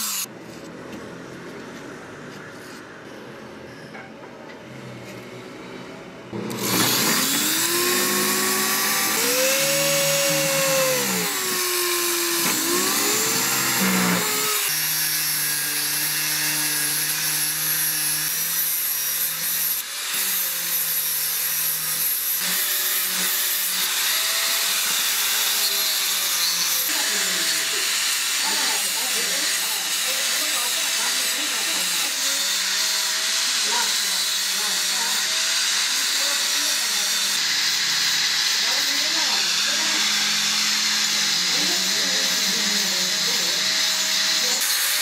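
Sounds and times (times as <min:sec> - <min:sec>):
angle grinder sanding wood: 0:00.0 - 0:00.3, 0:06.4 - 0:45.0.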